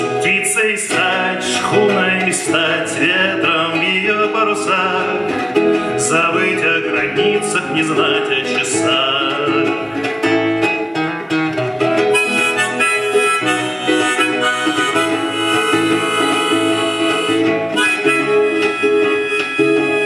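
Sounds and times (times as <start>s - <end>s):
harmonica melody: 0.0s - 20.0s
strummed acoustic guitar: 0.0s - 20.0s.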